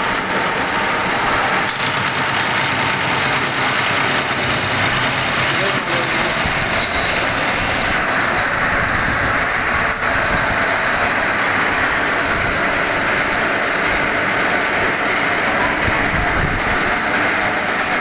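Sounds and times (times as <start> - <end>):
workshop machinery running: 0.0 - 18.0.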